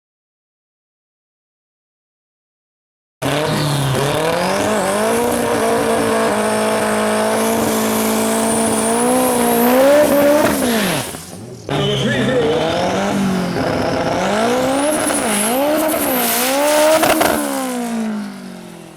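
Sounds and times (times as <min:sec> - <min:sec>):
engine revving: 0:03.2 - 0:18.9.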